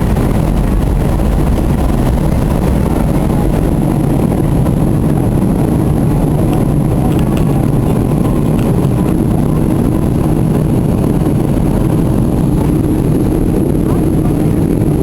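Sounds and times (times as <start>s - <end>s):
airliner engines rumbling: 0.0s - 15.0s
rushing air: 0.0s - 15.0s.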